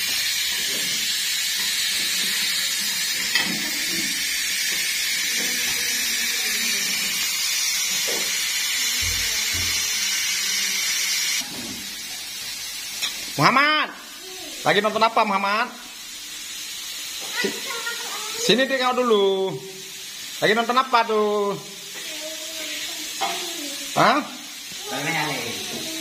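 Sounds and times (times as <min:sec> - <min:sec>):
pressure cooker hissing: 0:00.0 - 0:26.0.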